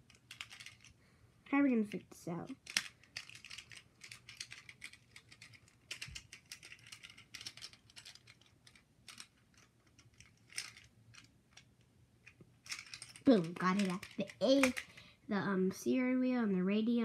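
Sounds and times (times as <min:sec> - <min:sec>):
plastic parts clicking and rattling: 0:00.0 - 0:01.0, 0:02.4 - 0:15.1.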